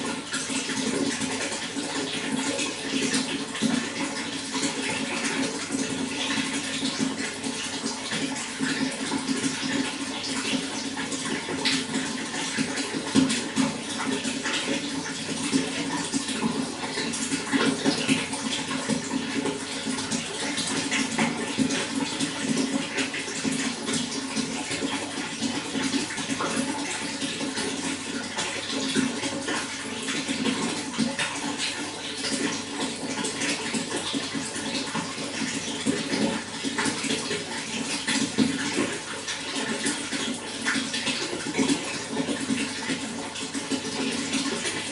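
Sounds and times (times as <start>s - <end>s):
running water splashing: 0.0s - 44.9s.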